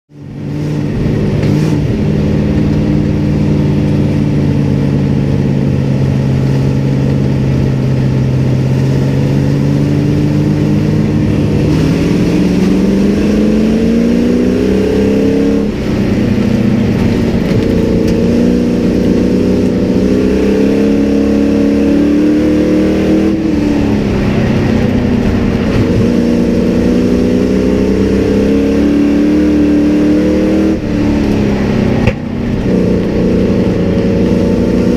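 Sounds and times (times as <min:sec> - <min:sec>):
race truck engine revving: 0:00.2 - 0:34.9.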